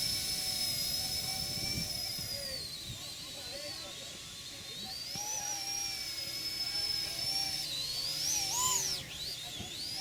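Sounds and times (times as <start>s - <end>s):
rc helicopter motor whining: 0.0s - 10.0s.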